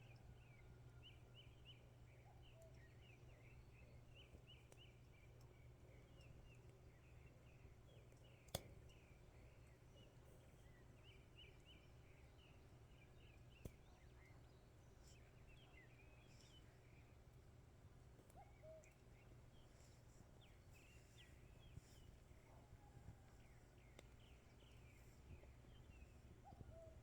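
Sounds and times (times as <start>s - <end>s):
small birds chirping: 0.1s - 17.5s, 18.1s - 27.0s.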